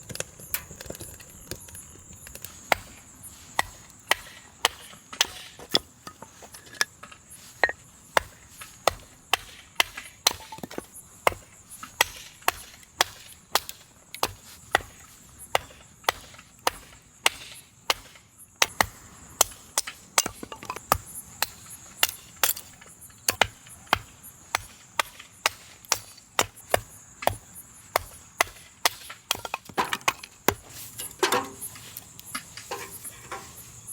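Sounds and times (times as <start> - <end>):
axe chopping wood: 2.4 - 6.7, 7.4 - 31.7.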